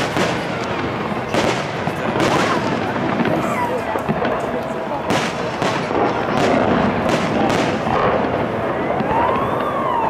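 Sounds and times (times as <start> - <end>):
firework shells bursting: 0.0 - 9.8
fireworks crackle: 0.0 - 10.0.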